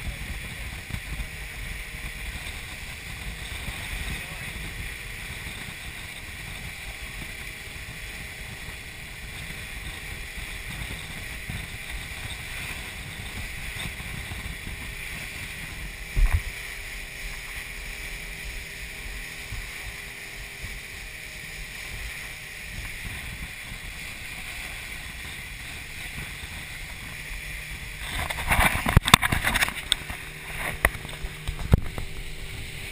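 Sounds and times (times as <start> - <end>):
motorboat engine drone: 0.0 - 32.9
wind and water rush: 0.0 - 32.9.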